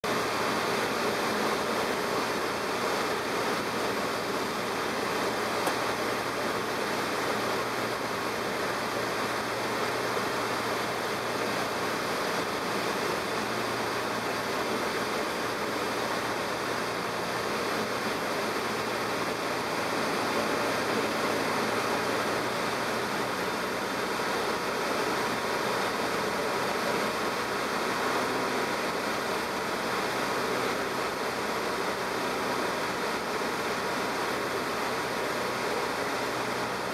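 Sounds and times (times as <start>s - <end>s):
aircraft engine and propeller drone: 0.1s - 36.9s.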